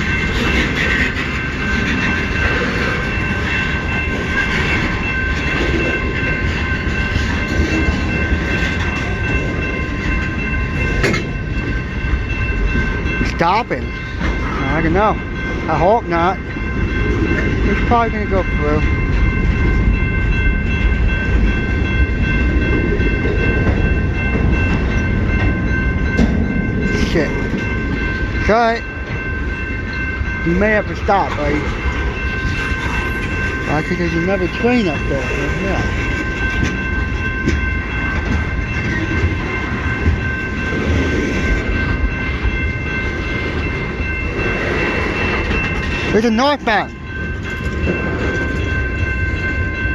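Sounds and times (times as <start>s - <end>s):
freight train cars rumbling past: 0.0s - 49.9s.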